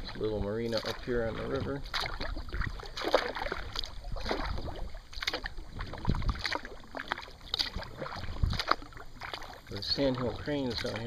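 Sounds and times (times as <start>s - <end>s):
kayak paddle splashing in water: 0.0s - 11.0s.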